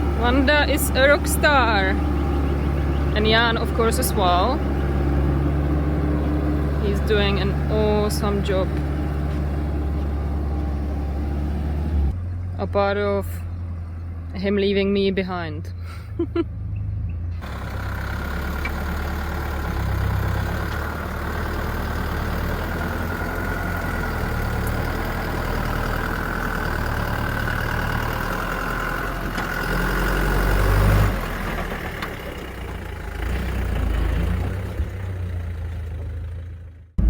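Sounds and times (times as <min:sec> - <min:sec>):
truck engine running under load: 0:00.0 - 0:37.0.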